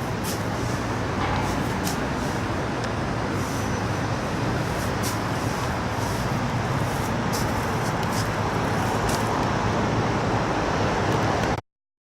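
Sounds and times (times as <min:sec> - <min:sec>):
airplane cabin engine rumble: 0:00.0 - 0:10.2.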